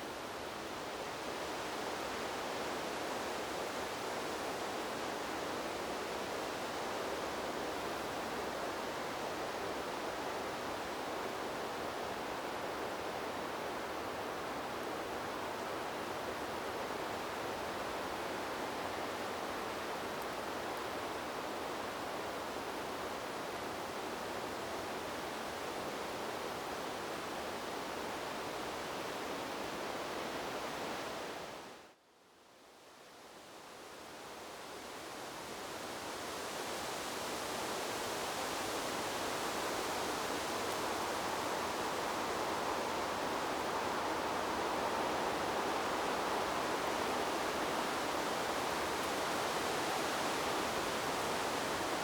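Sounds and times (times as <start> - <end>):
wind rushing through trees: 0.0 - 52.0.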